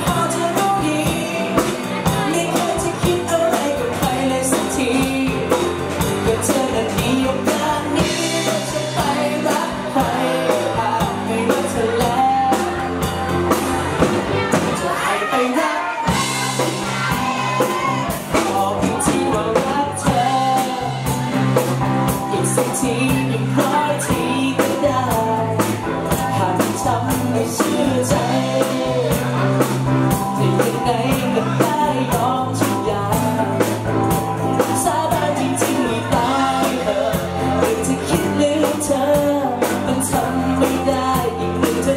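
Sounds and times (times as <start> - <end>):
lead vocalist singing: 0.0 - 41.9
live pop-rock band: 0.0 - 41.9.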